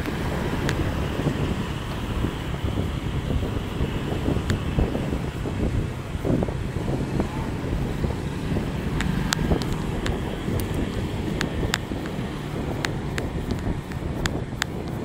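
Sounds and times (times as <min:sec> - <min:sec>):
sharp clicks and ticks: 0:00.0 - 0:06.9, 0:07.7 - 0:15.0
low road rumble: 0:00.0 - 0:15.0
wind buffeting microphone: 0:00.0 - 0:15.0.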